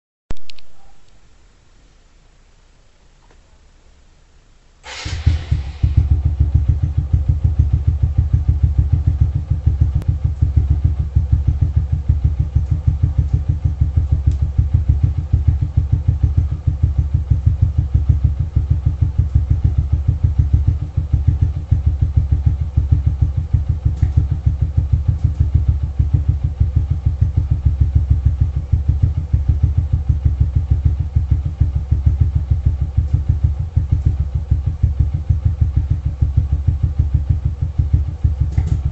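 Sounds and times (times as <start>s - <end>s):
motorcycle engine starting and idling: 4.8s - 38.9s.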